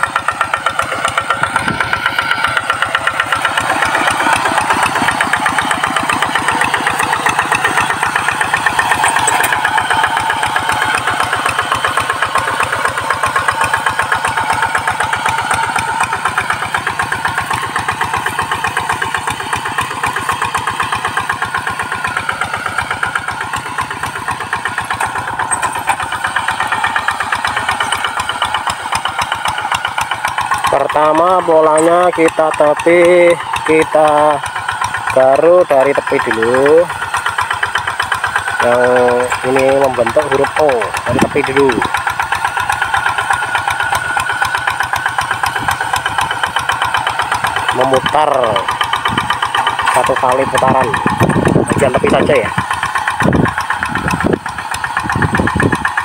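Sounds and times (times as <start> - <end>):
hand tractor diesel engine: 0.0 - 56.0.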